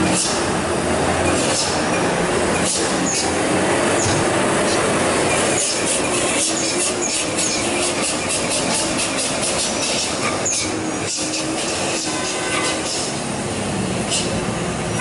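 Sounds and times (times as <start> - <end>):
diesel truck engines rumbling: 0.0 - 15.0.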